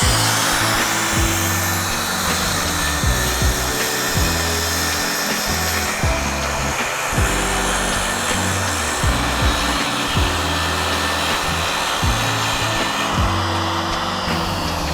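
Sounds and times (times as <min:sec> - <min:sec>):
music with bass and drums: 0:00.0 - 0:14.9
power tool hissing: 0:00.0 - 0:14.9.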